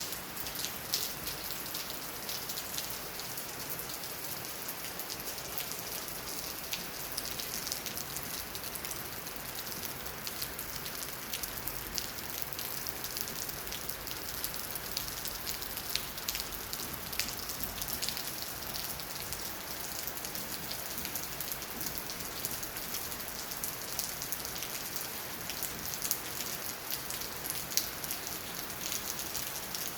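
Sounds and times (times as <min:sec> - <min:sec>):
rain falling on hard surfaces: 0:00.0 - 0:29.9.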